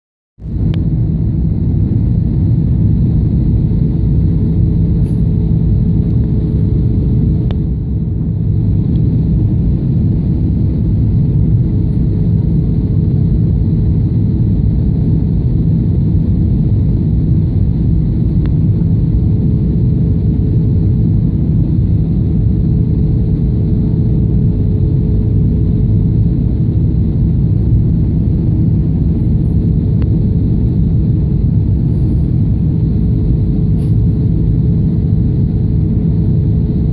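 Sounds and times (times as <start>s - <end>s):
constant cabin hum: 0.4s - 36.9s
jet engine and airflow rumble: 0.4s - 36.9s.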